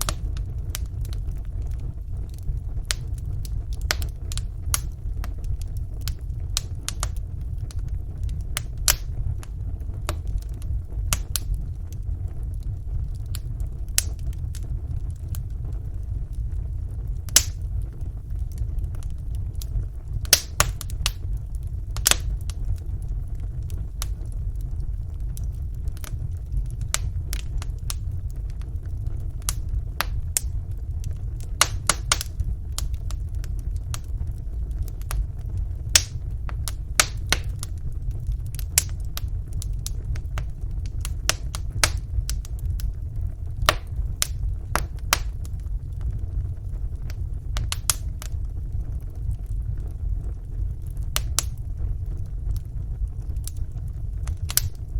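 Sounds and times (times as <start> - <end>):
fire crackling and popping: 0.0 - 54.9
wood fire rumbling: 0.0 - 54.9.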